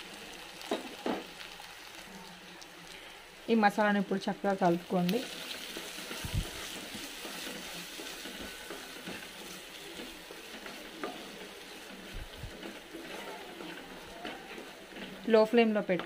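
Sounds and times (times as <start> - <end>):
paste sizzling in oil: 0.0 - 16.0.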